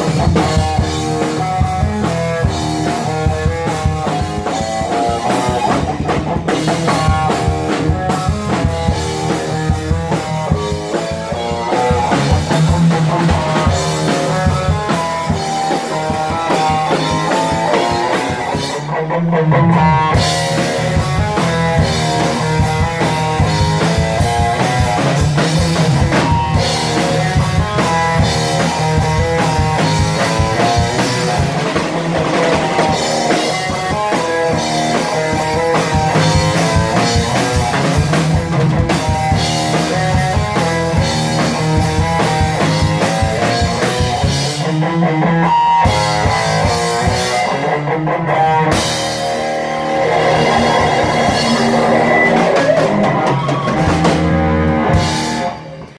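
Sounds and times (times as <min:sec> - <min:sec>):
live rock band: 0:00.0 - 0:55.9.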